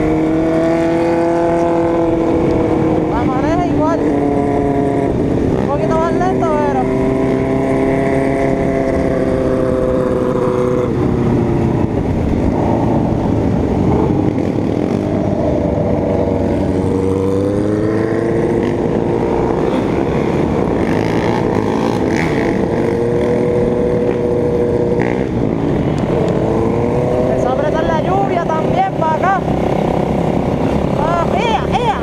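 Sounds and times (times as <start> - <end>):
motorcycle engine: 0.0 - 32.0
wind rush: 0.0 - 32.0.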